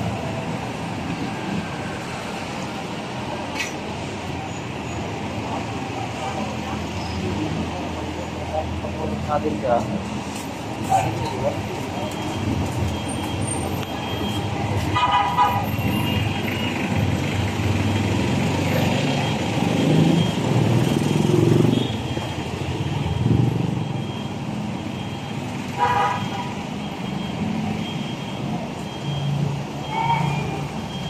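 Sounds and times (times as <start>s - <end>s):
street traffic noise: 0.0s - 31.0s.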